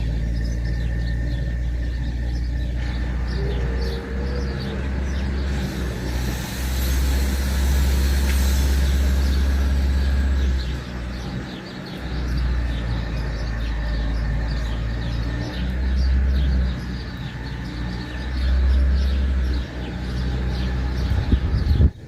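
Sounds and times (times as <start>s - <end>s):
low outdoor rumble: 0.0s - 22.0s
small birds chirping: 0.0s - 22.0s
vehicle passing: 0.0s - 22.0s.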